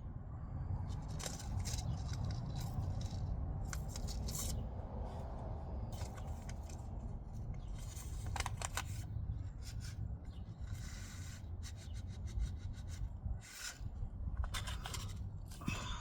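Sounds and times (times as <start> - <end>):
scratching and rustling in soil: 0.7 - 15.6.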